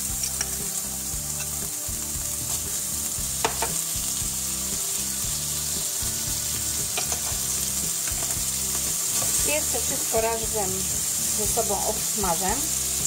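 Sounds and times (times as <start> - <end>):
onion sizzling in a frying pan: 0.0 - 13.0.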